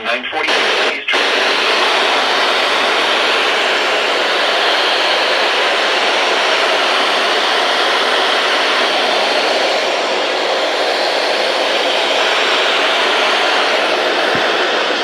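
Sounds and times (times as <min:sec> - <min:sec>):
loud steady hiss: 0:00.0 - 0:15.0.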